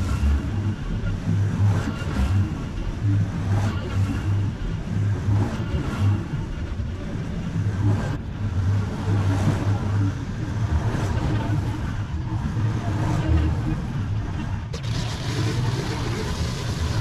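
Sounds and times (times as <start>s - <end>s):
mower engine drone: 0.0s - 17.0s.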